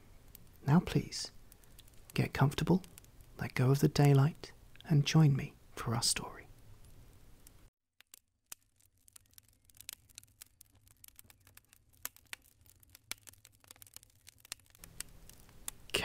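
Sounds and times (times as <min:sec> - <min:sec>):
crackling wood fire: 0:00.0 - 0:16.0.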